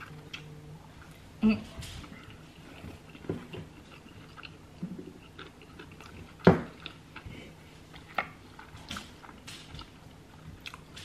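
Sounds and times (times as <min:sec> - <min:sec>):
close chewing with wet clicks: 0:00.0 - 0:01.2, 0:02.0 - 0:11.0.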